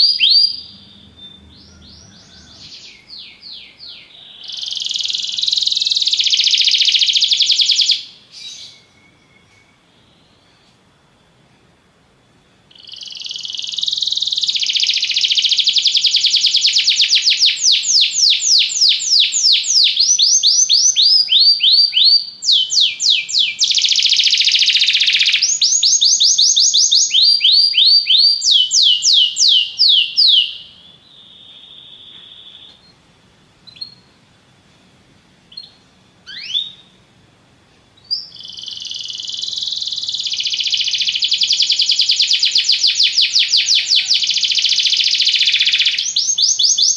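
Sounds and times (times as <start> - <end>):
canary trilling song: 0.0 - 10.6, 12.7 - 33.0, 33.6 - 34.2, 35.5 - 37.0, 38.0 - 46.9.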